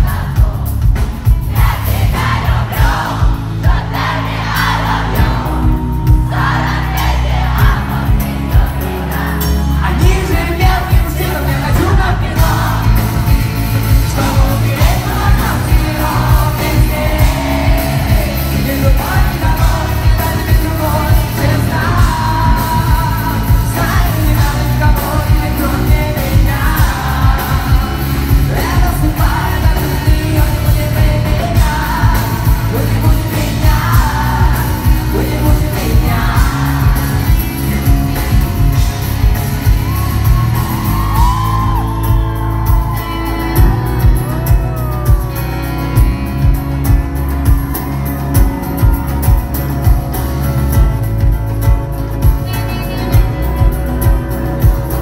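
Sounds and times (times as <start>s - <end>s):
heavy beat: 0.0s - 55.0s
live band music: 0.0s - 55.0s
person singing: 0.0s - 55.0s.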